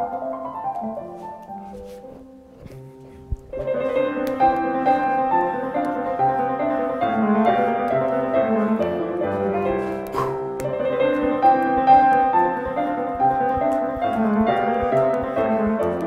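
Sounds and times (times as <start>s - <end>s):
classical piano music: 0.0s - 16.0s.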